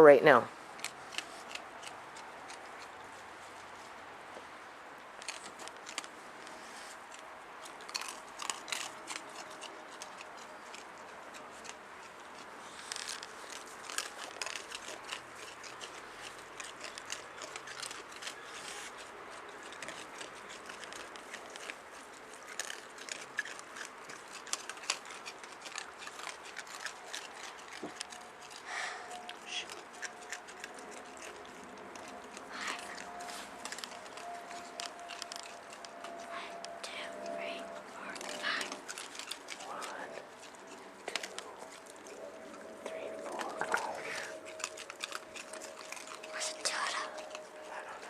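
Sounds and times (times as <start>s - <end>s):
raccoons crunching dry food: 0.0s - 48.0s.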